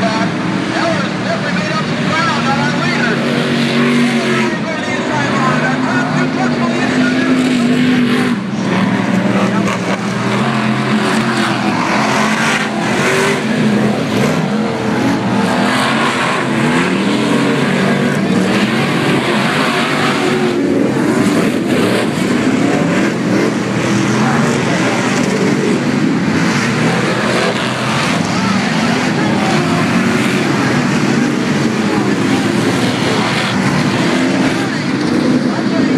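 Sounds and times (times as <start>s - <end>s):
race truck engines revving: 0.0s - 35.9s.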